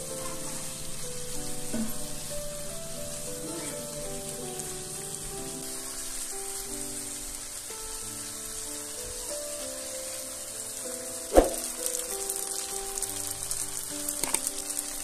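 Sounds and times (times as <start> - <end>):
onions and tomatoes sizzling in oil: 0.0 - 15.0.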